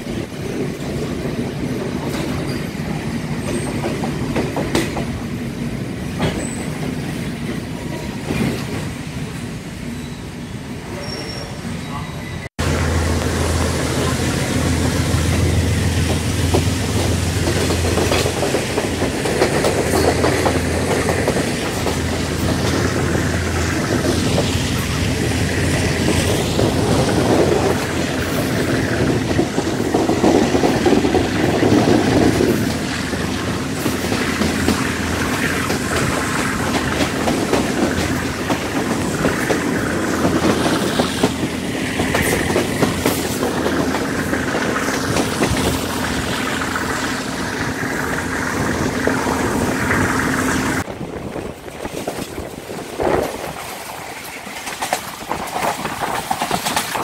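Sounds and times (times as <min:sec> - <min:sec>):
rapid clacking of train: 0:00.0 - 0:10.1, 0:10.8 - 0:57.0
train wheels rumbling on rails: 0:00.0 - 0:57.0.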